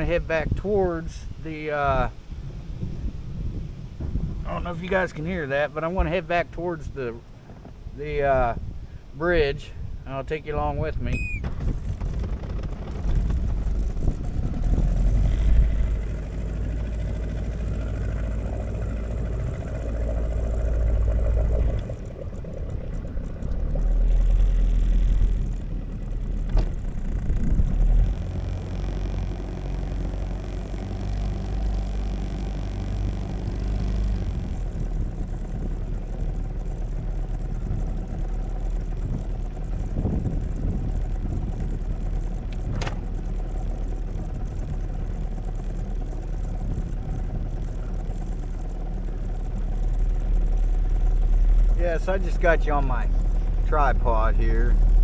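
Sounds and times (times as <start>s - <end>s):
boat motor running: 0.0s - 55.0s.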